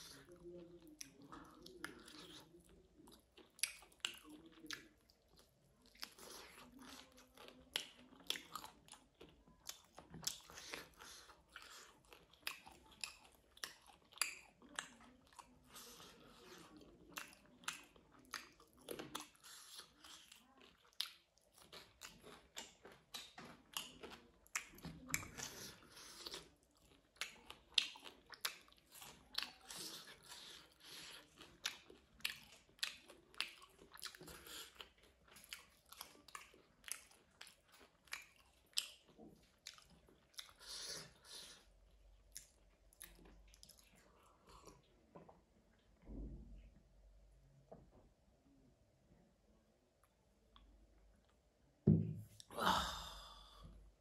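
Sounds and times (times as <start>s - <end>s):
person chewing with mouth smacks: 0.0s - 46.0s.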